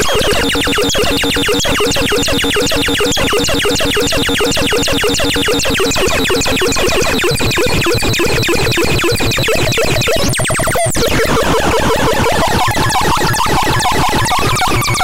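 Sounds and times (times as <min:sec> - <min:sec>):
synthesizer blips falling in pitch: 0:00.0 - 0:15.0.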